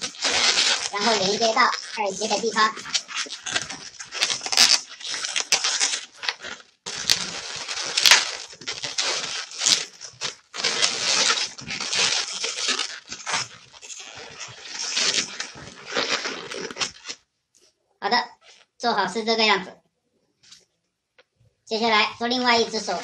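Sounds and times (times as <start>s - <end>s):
balloons rubbing and squeaking: 0.0s - 17.2s, 21.7s - 23.0s.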